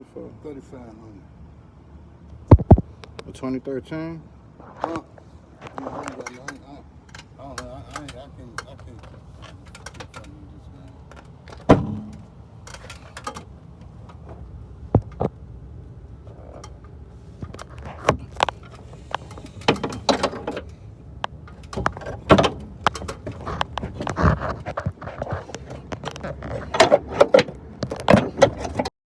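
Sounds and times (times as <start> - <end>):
car clunks and rattles: 4.7 - 15.4, 16.2 - 28.9.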